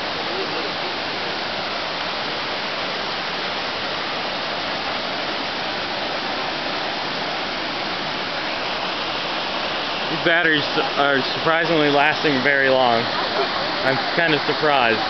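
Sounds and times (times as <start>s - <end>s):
waterfall rushing over rocks: 0.0s - 15.0s.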